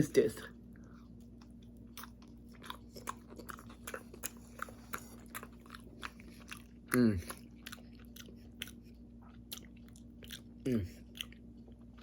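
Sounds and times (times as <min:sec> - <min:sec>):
person chewing pizza: 0:00.0 - 0:12.0.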